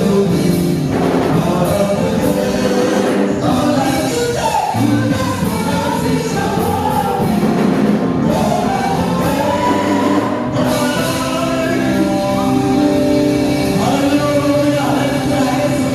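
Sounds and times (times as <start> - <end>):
live band accompaniment: 0.0 - 15.9
vocal group singing gospel: 0.0 - 15.9.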